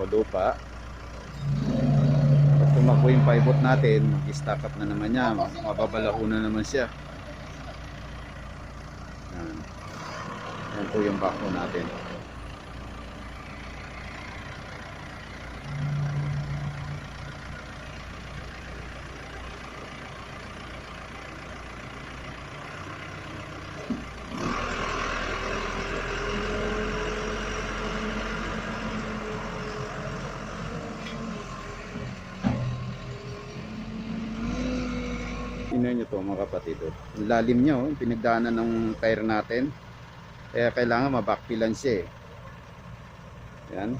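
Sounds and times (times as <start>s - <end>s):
backhoe engine running: 0.0s - 43.9s.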